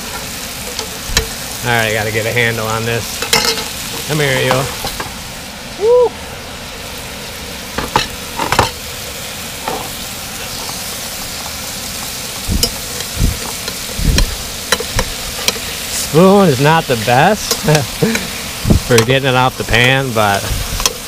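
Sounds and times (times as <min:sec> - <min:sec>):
fish frying sizzle: 0:00.0 - 0:21.0.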